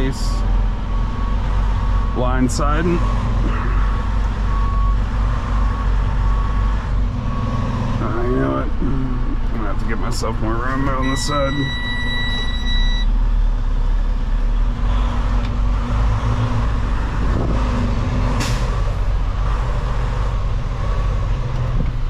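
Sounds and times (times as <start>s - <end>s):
diesel truck engine idling: 0.0s - 17.5s, 18.3s - 22.0s.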